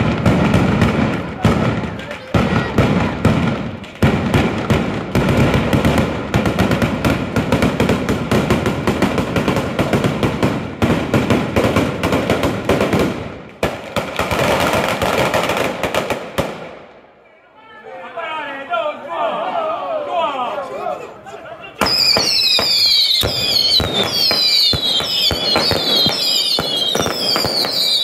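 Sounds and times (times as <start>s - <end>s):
firecracker barrage bangs: 0.0s - 16.9s, 21.8s - 28.0s.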